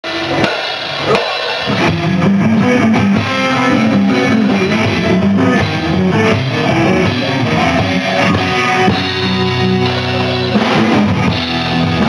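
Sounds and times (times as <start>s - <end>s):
bass guitar notes: 0.0s - 12.0s
drum kit: 0.0s - 12.0s
electric guitars: 0.0s - 12.0s.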